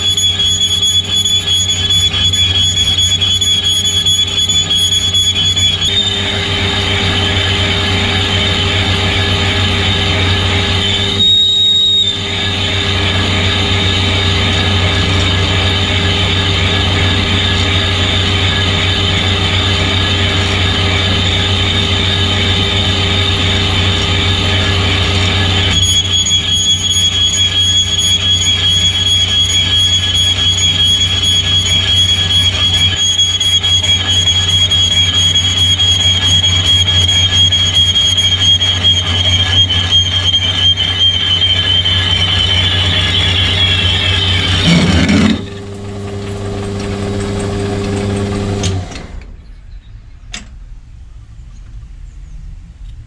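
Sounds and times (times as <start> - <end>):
high-pitched cutting squeal: 0.0 - 48.9
lathe humming: 0.0 - 49.0.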